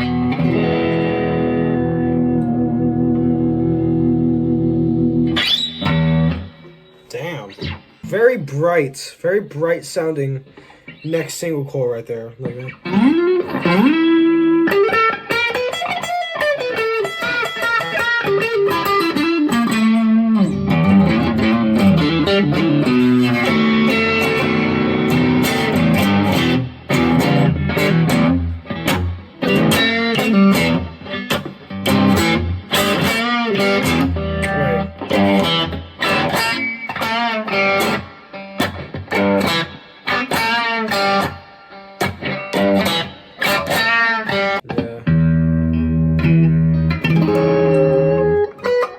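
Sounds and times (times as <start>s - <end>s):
electric guitar through amp: 0.0s - 8.2s, 12.4s - 48.9s.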